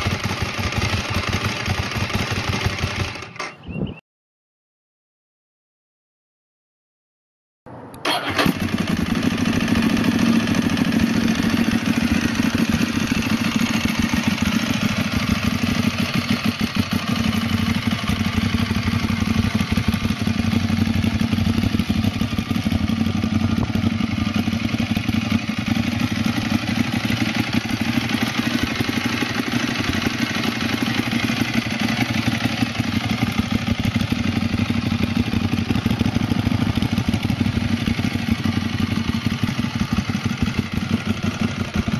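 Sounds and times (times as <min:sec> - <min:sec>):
motorcycle engine idling: 0:00.0 - 0:03.4, 0:08.0 - 0:41.9.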